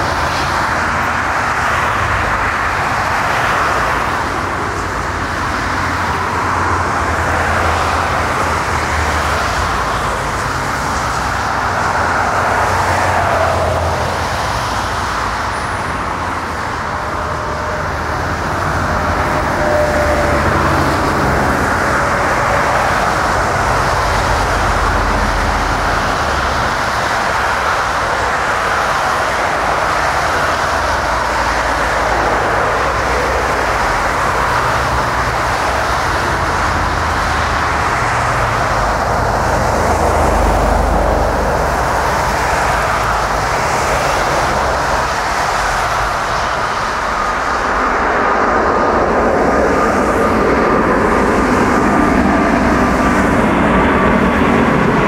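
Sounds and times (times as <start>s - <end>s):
distant jet engine rumble: 0.0s - 55.0s.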